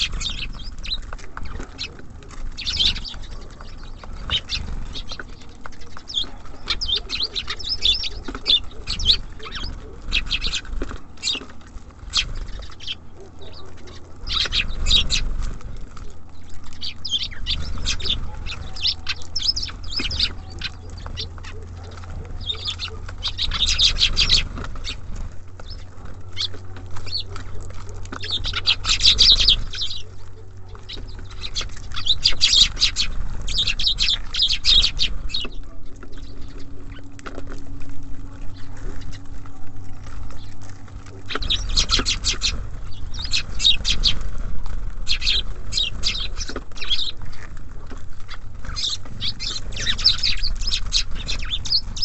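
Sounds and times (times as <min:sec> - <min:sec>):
low steady rumble: 0:00.0 - 0:52.0
songbirds chirping: 0:00.0 - 0:52.0.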